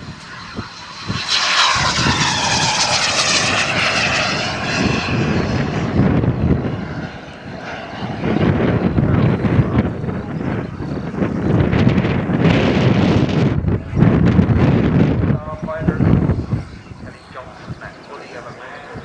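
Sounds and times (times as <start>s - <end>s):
model aeroplane engine flying by: 0.0s - 19.0s.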